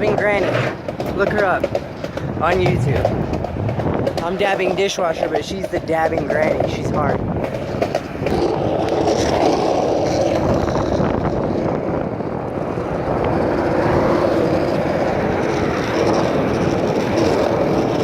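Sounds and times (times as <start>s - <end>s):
loud rumbling noise: 0.0s - 18.0s.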